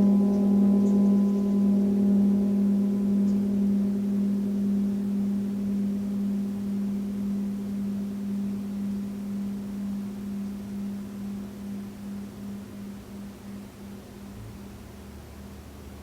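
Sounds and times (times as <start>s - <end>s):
gong ringing: 0.0s - 13.2s.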